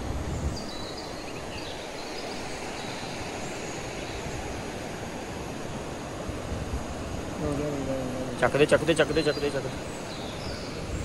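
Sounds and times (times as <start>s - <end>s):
strong wind rushing: 0.0s - 11.0s.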